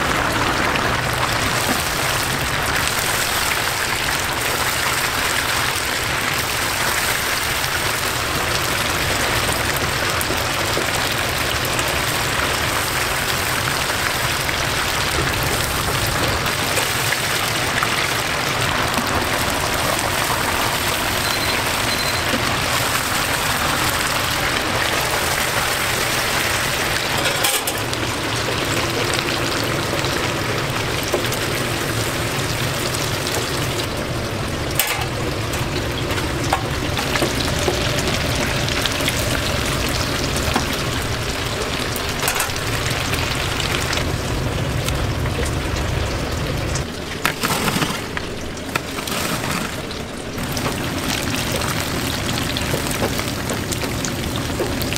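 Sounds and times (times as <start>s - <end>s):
oil sizzling deep-frying: 0.0s - 54.9s.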